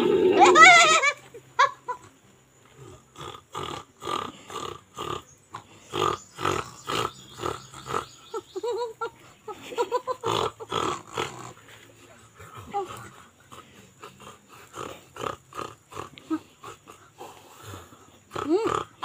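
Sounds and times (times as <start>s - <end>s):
people grunting gibberish: 0.0s - 1.2s, 2.1s - 19.0s.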